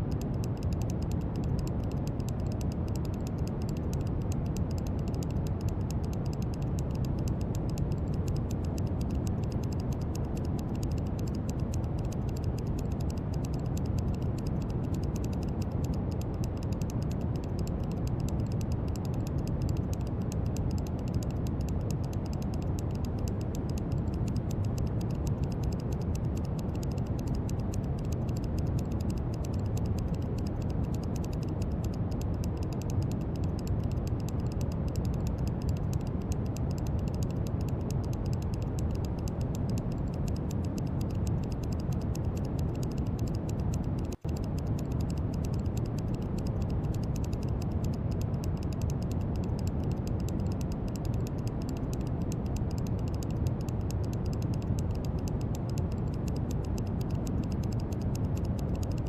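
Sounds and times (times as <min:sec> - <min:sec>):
rapid crackle of tiny clicks: 0:00.0 - 0:59.0.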